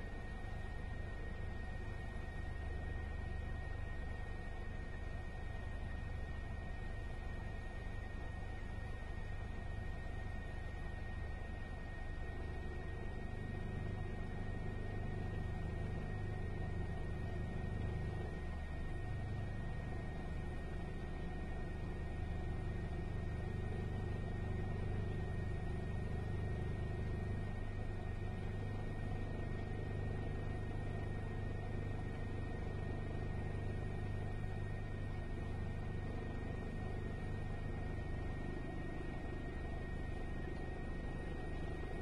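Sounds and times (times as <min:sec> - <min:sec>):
aircraft engine drone from inside: 0:00.0 - 0:42.0
faint high whine: 0:00.0 - 0:42.0.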